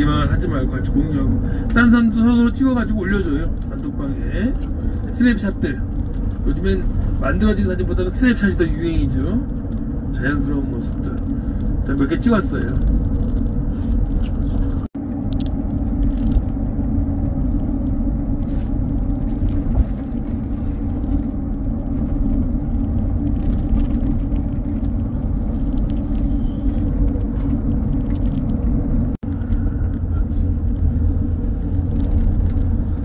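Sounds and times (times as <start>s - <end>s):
car driving interior rumble: 0.0s - 33.0s.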